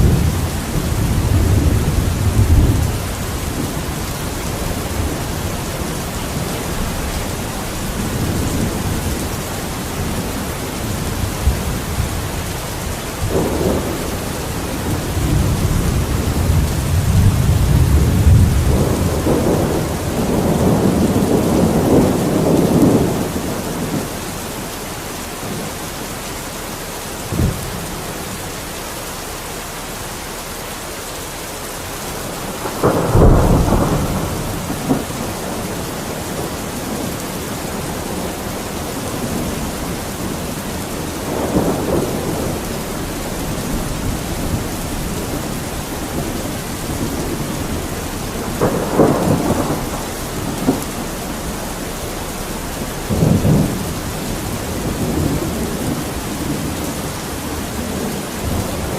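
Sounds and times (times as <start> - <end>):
sharp thunderclap: 0.0 - 24.1, 27.3 - 28.0, 32.2 - 58.9
distant rolling thunder: 0.0 - 30.3, 31.1 - 58.9
steady rain: 0.0 - 58.9.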